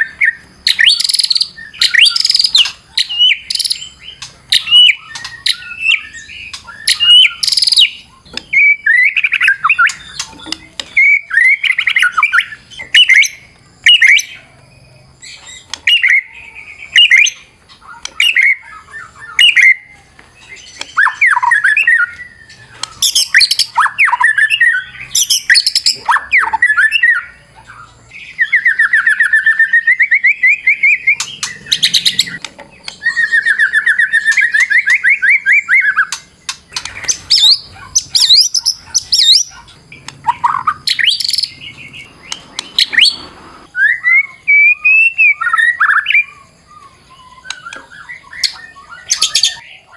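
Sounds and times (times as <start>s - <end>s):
bird singing varied song: 0.0s - 49.9s
rapid buzzy bird trill: 0.0s - 49.9s.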